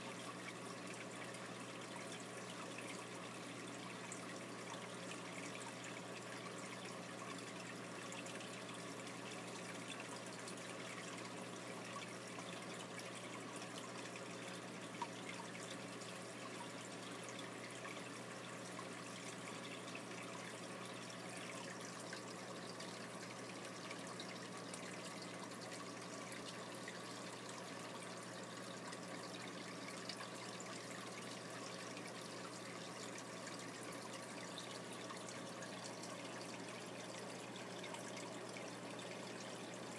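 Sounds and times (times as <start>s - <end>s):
aquarium water trickling: 0.0s - 39.9s
low electric hum: 0.0s - 39.9s.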